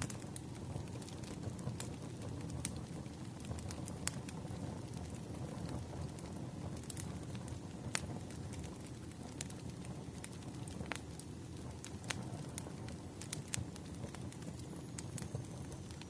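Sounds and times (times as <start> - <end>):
burning wood crackling and popping: 0.0 - 16.0
campfire flames rumbling: 0.0 - 16.0.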